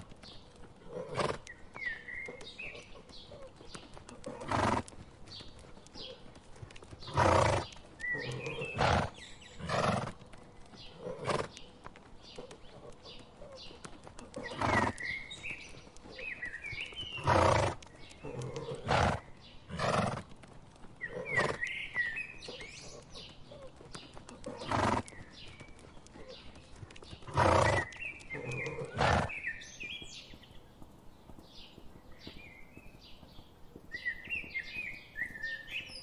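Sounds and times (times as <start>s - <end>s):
birds chirping: 0.0s - 36.0s
horses calling: 0.0s - 36.0s.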